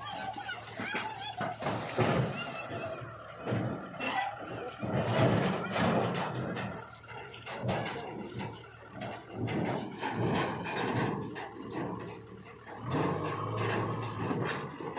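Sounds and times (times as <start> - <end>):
backhoe loader working: 0.0 - 14.9
tractor diesel engine: 0.0 - 14.9.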